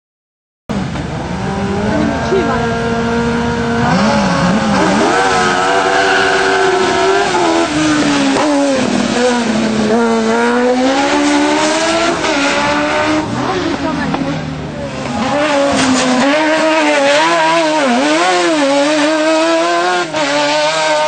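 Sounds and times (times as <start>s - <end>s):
race car engine revving and accelerating: 0.7s - 21.0s.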